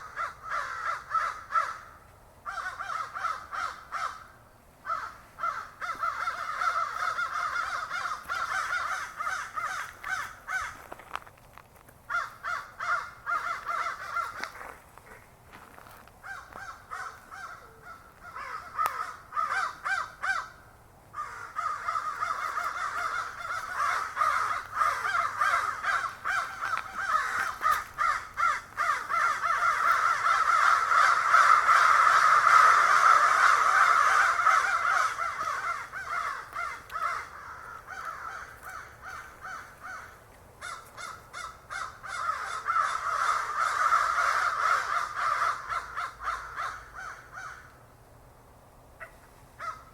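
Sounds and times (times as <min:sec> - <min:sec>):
crows cawing: 0:00.0 - 0:11.2, 0:12.1 - 0:47.8, 0:49.0 - 0:49.9.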